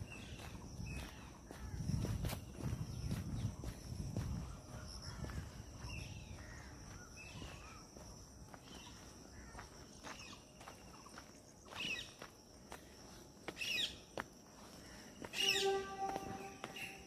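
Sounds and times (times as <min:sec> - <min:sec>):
birds chirping: 0:00.0 - 0:17.0
footsteps on a path: 0:00.0 - 0:17.0
insects whining: 0:00.0 - 0:17.0.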